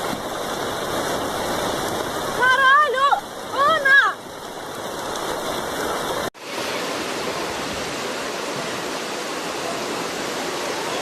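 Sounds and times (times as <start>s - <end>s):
heavy rain rushing: 0.0s - 11.0s.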